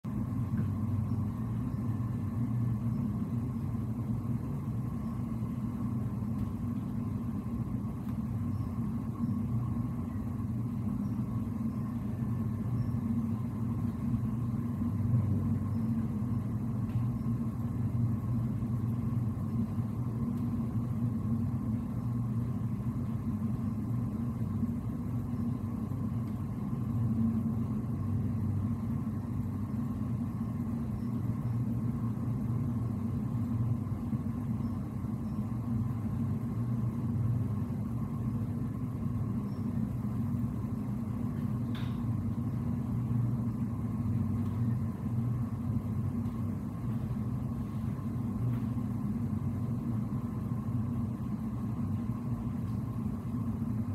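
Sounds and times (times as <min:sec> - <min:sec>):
faint high steady tone: 0:00.1 - 0:53.9.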